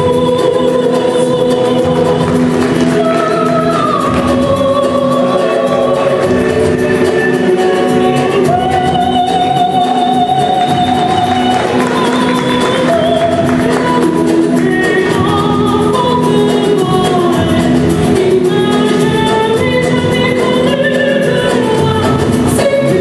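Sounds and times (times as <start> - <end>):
singing voices holding long notes: 0.0 - 23.0.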